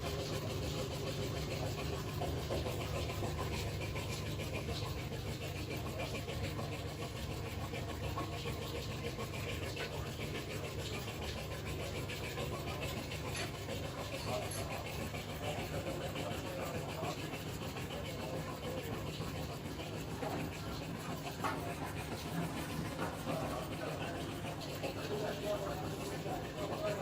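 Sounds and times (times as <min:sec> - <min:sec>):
motor humming with rattle: 0:00.0 - 0:27.0.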